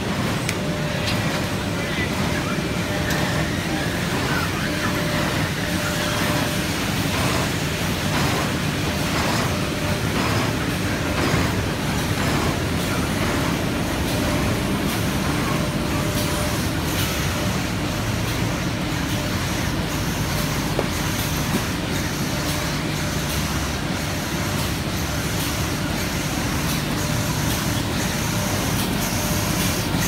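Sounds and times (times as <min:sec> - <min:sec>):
machine line running: 0:00.0 - 0:30.0.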